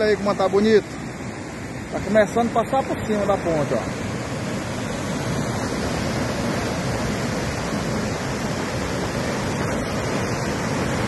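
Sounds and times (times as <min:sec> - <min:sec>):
turbulent river water rushing: 0:00.0 - 0:11.0.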